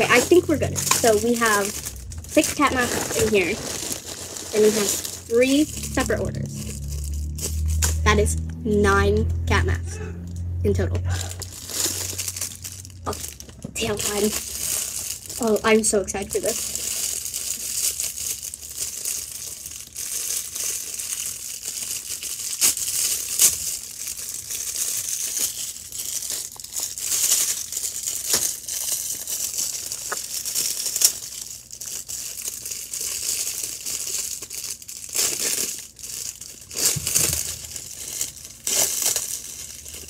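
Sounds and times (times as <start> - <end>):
plastic bag crinkling: 0.0 - 8.6, 10.2 - 40.0.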